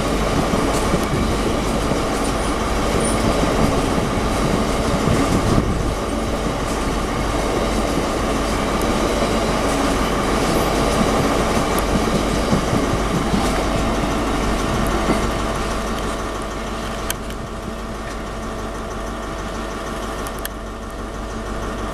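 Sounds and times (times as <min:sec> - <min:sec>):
freight train wheels rumbling on rail: 0:00.0 - 0:21.9.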